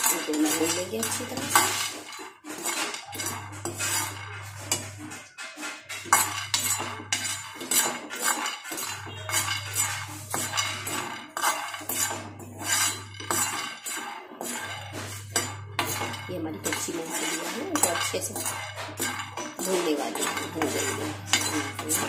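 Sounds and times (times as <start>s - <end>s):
metal spoon scraping a pan: 0.0s - 22.0s
peanuts rattling in a pan: 0.0s - 22.0s.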